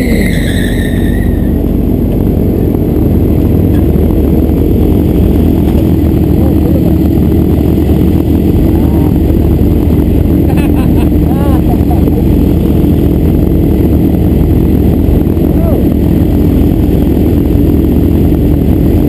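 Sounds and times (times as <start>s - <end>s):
high whine: 0.0s - 19.0s
motorcycle engine running: 0.0s - 19.0s.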